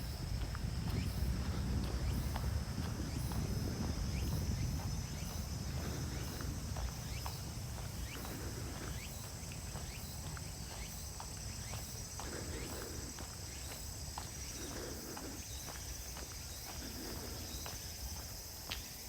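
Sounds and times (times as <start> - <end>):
footsteps on a trail: 0.0 - 19.0
insects chorus: 0.0 - 19.0.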